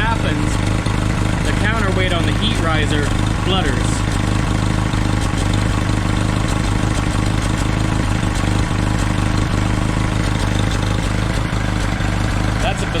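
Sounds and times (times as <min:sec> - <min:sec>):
engine idling with pulsing: 0:00.0 - 0:13.0.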